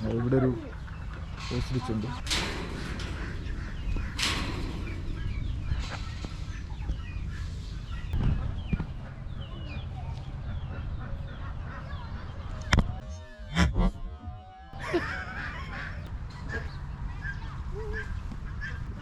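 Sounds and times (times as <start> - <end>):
chickens clucking: 0.0 - 19.0
fowl chirping calls: 0.0 - 19.0.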